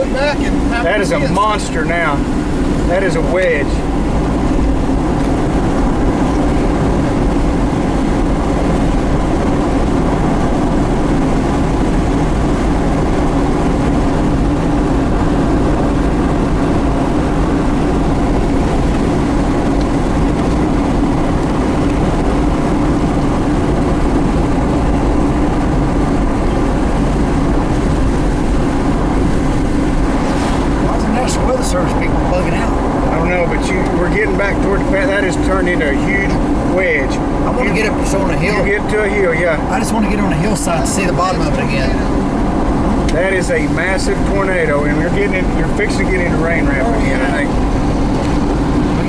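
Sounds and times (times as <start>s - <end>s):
road noise: 0.0s - 49.0s
vehicle engine drone: 0.0s - 49.0s.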